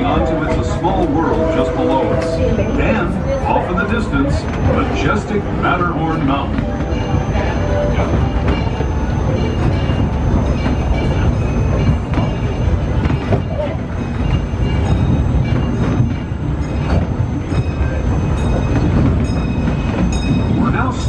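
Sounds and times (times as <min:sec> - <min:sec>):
train cars rumbling on rails: 0:00.0 - 0:21.0.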